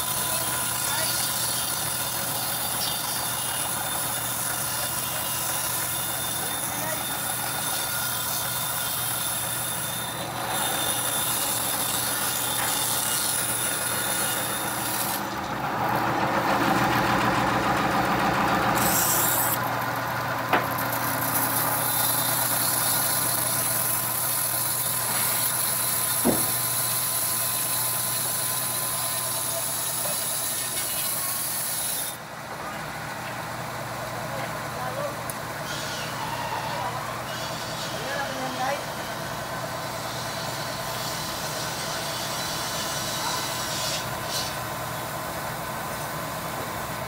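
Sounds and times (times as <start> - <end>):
bandsaw cutting log: 0.0 - 32.2, 35.6 - 46.2.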